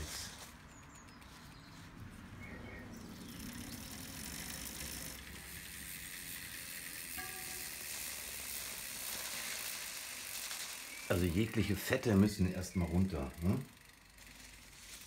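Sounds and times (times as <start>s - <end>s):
tissue rubbing brake rotor: 0.0s - 12.3s, 12.9s - 15.0s.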